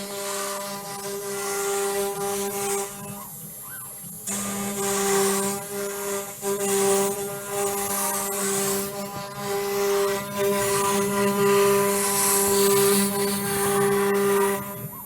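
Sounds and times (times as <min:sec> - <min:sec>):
router bit cutting wood: 0:00.0 - 0:15.0
router spindle whining: 0:00.0 - 0:15.0.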